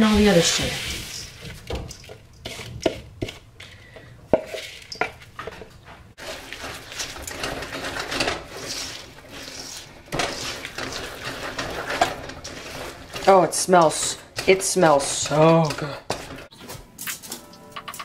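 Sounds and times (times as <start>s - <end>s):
wooden spoon stirring thick mixture: 0.0s - 16.5s.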